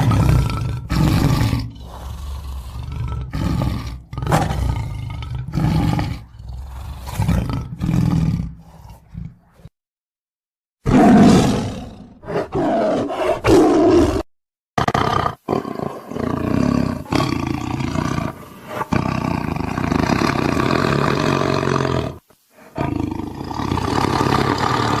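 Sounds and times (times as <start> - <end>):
tiger roaring and growling: 0.0 - 9.7, 10.8 - 25.0.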